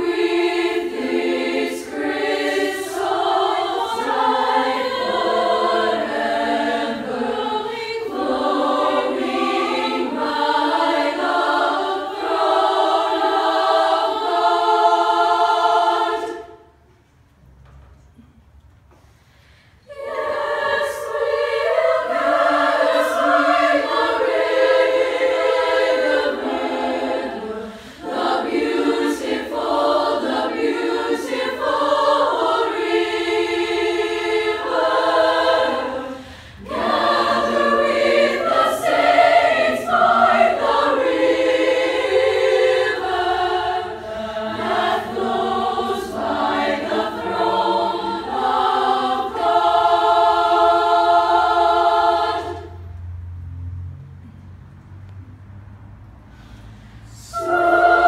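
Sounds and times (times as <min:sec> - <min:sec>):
women's choir singing a cappella: 0:00.0 - 0:16.9, 0:19.8 - 0:52.9, 0:57.0 - 0:58.0.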